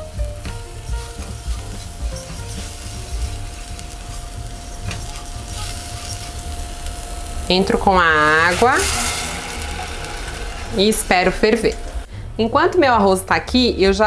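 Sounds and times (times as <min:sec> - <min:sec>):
rice frying sizzle: 0:00.0 - 0:12.1.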